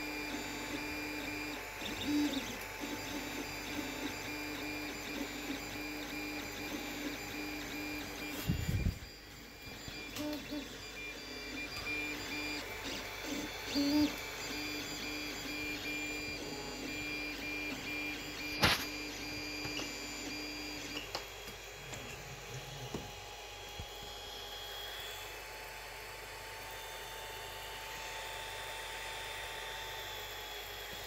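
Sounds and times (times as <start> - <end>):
stepper motors whining: 0.0 - 25.5
mechanical hum: 0.0 - 31.0.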